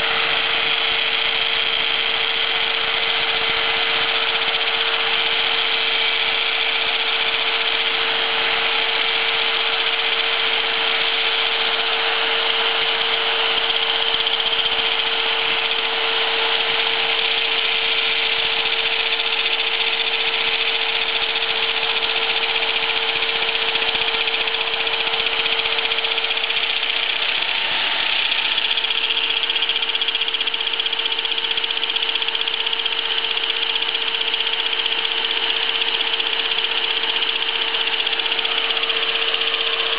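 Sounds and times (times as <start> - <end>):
angle grinder grinding metal: 0.0 - 39.9
electric drill running: 0.0 - 39.9.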